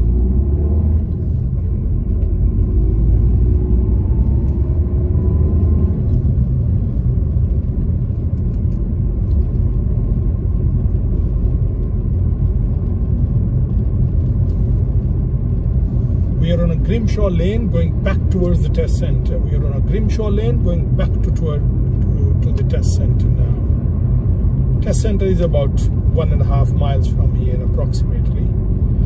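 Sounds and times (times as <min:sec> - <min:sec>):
car engine from inside cabin: 0:00.0 - 0:29.0
tyre road rumble: 0:00.0 - 0:29.0.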